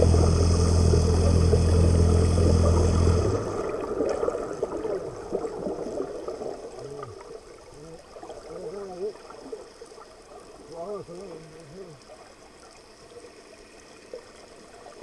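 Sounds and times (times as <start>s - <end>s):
boat engine humming underwater: 0.0s - 15.0s
faint gurgling water: 0.0s - 15.0s.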